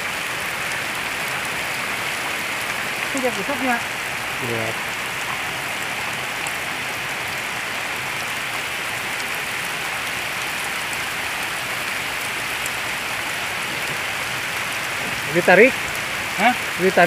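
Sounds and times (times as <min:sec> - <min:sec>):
heavy rain on standing water: 0:00.0 - 0:17.0.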